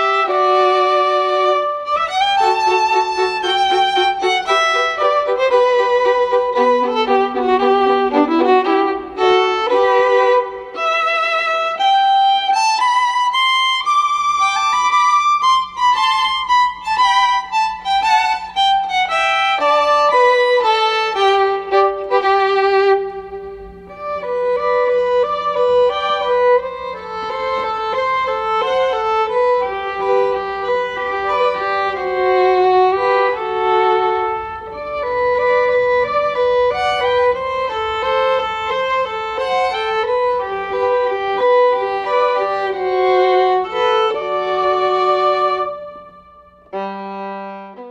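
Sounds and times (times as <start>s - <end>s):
violin melody with vibrato: 0.0s - 47.9s.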